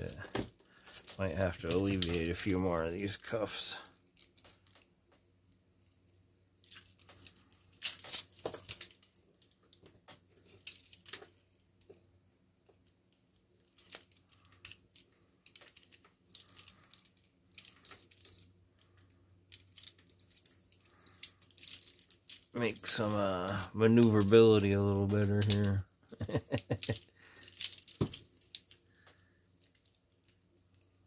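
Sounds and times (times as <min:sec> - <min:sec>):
handcuffs and chains clinking: 0:00.0 - 0:31.0.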